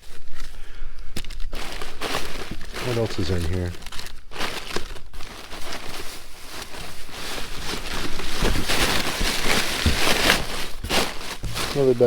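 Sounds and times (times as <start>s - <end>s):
bag crinkling and rustling: 0.0s - 12.0s.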